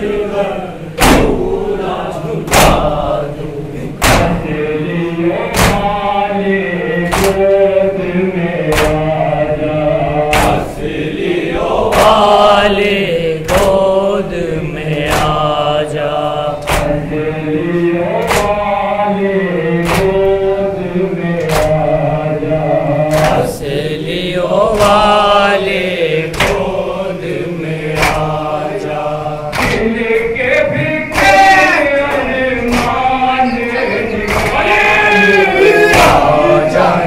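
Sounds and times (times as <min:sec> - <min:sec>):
group chanting in unison: 0:00.0 - 0:37.0.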